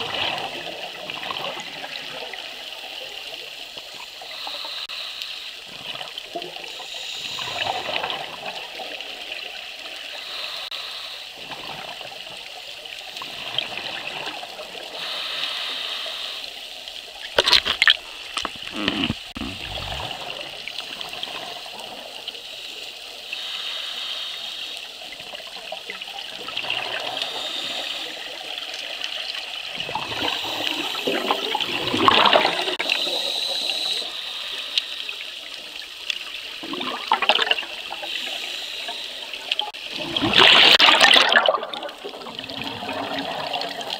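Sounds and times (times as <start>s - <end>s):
underwater bubbling: 0.0s - 43.9s.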